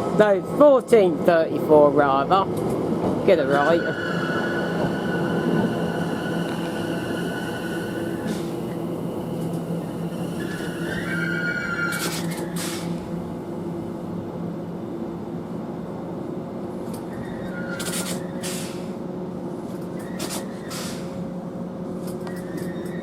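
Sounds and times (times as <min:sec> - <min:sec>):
electric train humming: 0:00.0 - 0:20.2.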